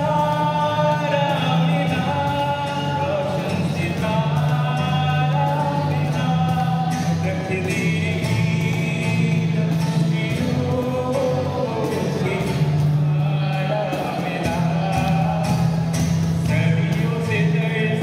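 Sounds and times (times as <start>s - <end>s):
cajon drumming: 0.0s - 18.0s
person singing into microphone: 0.0s - 18.0s
strummed acoustic guitar: 0.0s - 18.0s.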